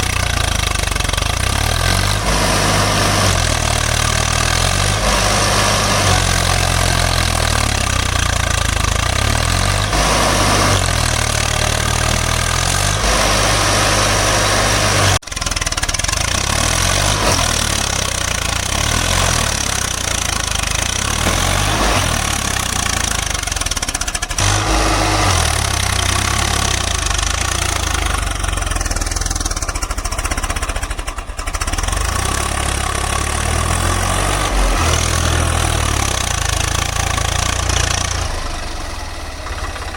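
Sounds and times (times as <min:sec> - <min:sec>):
tractor diesel engine knocking: 0:00.0 - 0:39.9.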